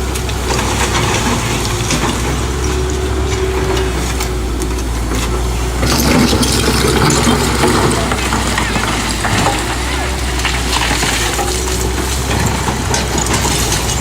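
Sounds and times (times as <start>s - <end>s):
clicks and clatter: 0.0s - 14.0s
machine engine humming: 0.0s - 14.0s.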